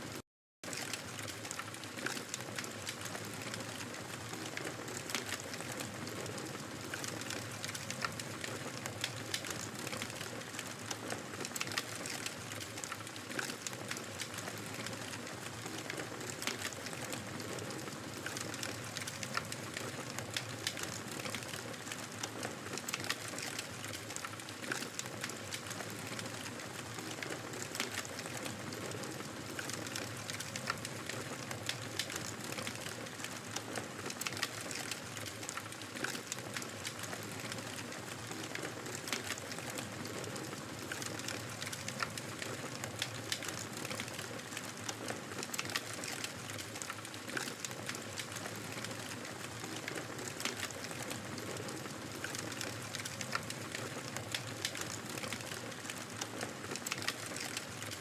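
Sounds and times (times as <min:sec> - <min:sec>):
wood fire crackling and popping: 0:00.7 - 0:58.0.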